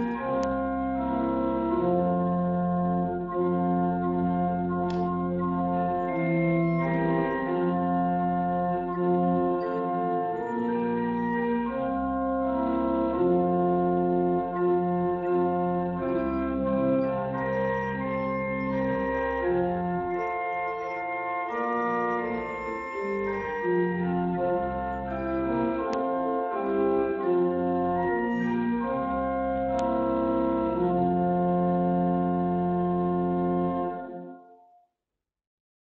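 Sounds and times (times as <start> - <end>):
organ playing chords: 0.0 - 34.4.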